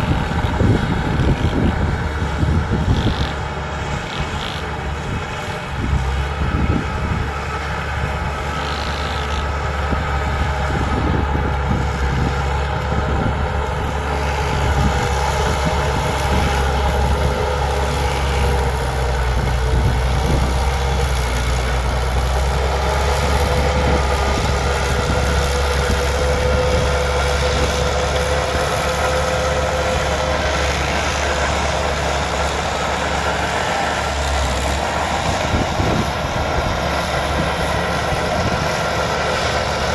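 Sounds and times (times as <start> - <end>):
bulldozer diesel engine rumbling: 0.0 - 39.9.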